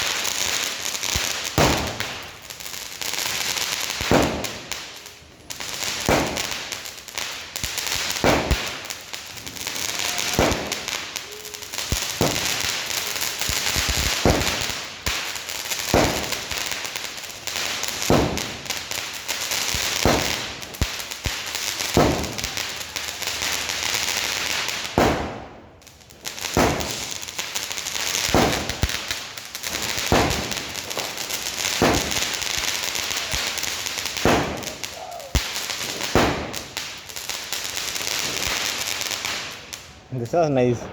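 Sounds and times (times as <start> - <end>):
firework crackling sizzle: 0.0 - 40.9
firework shots: 0.0 - 40.9.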